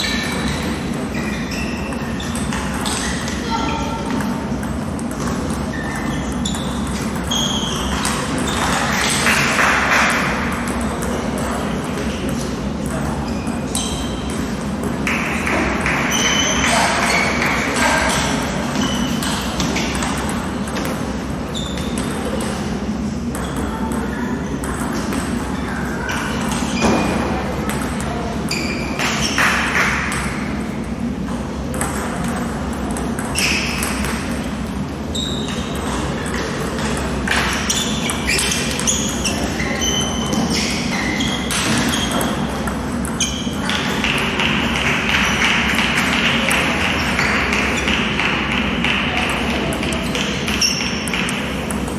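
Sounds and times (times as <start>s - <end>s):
murmur of voices: 0.0s - 51.9s
table tennis balls pinging: 0.0s - 51.9s.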